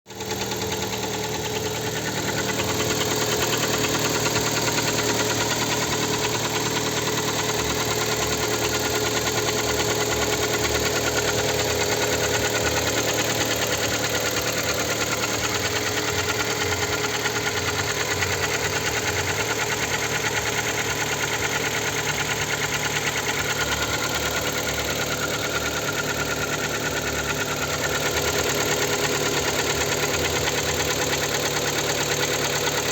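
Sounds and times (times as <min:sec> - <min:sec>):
car engine idling with knocking: 0:00.1 - 0:32.9.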